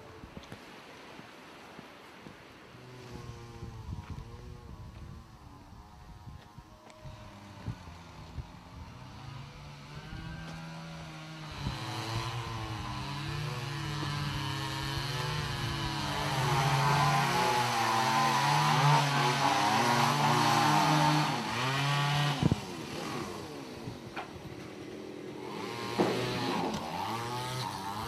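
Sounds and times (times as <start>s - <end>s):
small engine running: 2.8s - 28.0s.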